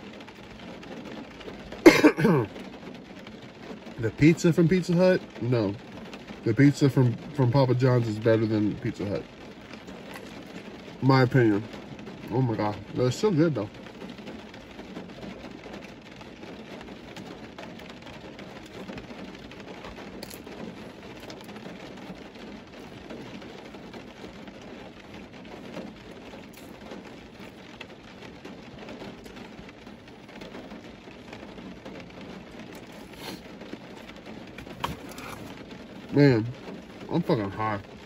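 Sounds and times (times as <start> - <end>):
steady hiss with crackle: 0.0 - 38.0.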